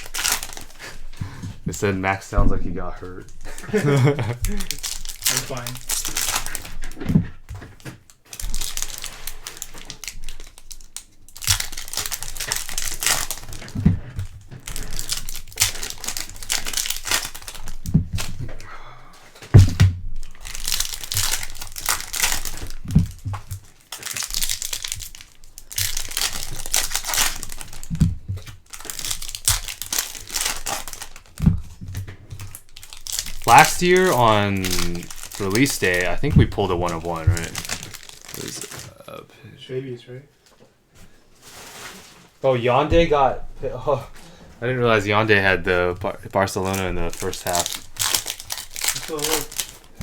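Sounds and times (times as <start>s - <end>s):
foil wrappers crinkling and tearing: 0.0s - 39.0s, 41.4s - 50.0s.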